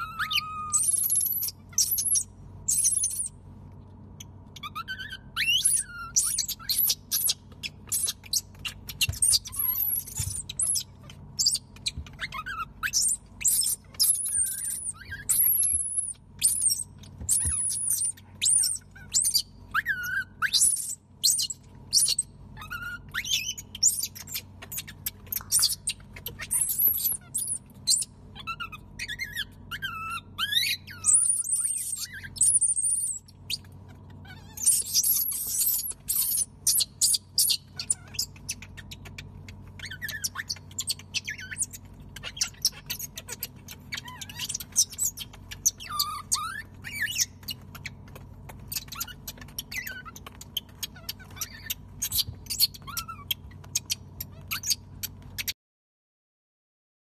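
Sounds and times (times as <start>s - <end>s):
infant monkeys squealing: 0.0s - 3.4s, 4.5s - 55.5s.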